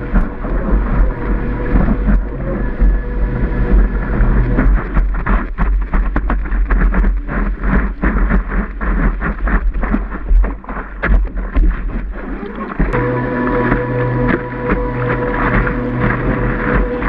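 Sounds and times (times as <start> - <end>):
water splashing against surfboard: 0.0 - 17.0
wind noise on microphone: 0.0 - 17.0.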